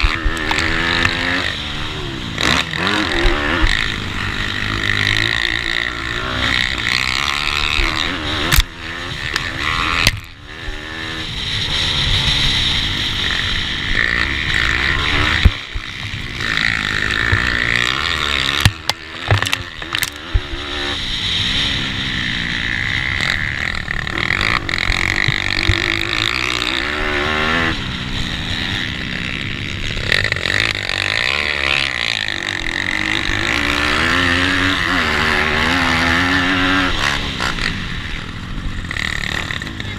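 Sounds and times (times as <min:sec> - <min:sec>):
pitbike engines revving: 0:00.0 - 0:39.9.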